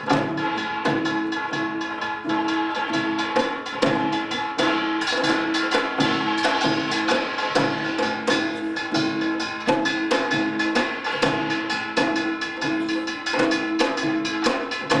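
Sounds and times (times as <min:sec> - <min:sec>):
drum strokes: 0:00.0 - 0:15.0
gongs clanging: 0:00.0 - 0:15.0.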